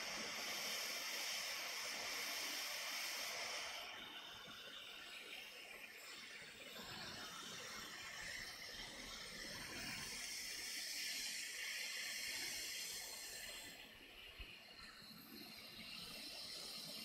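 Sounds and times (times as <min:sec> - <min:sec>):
hot air blower hiss: 0:00.0 - 0:17.0.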